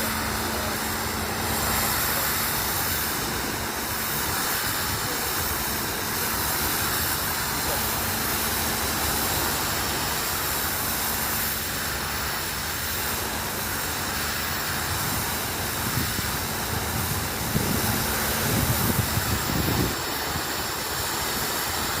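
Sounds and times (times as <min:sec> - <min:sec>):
pressure washer jet hissing: 0:00.0 - 0:22.0.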